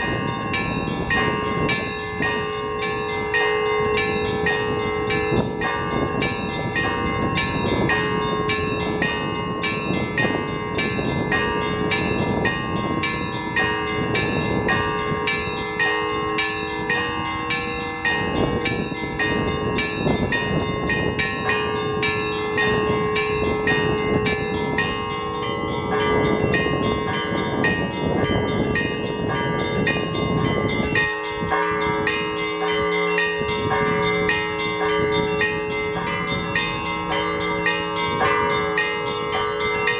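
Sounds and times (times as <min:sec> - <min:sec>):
large bells ringing tones: 0:00.0 - 0:39.9
small church bells rapid strikes: 0:00.0 - 0:39.9
wind gusts on microphone: 0:00.0 - 0:39.9.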